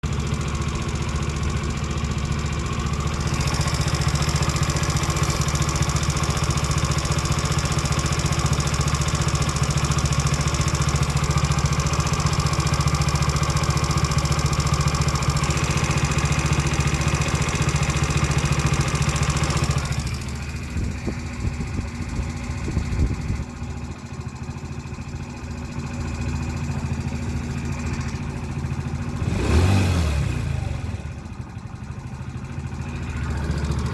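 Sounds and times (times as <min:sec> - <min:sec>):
scooter engine knocking: 0:00.0 - 0:33.9.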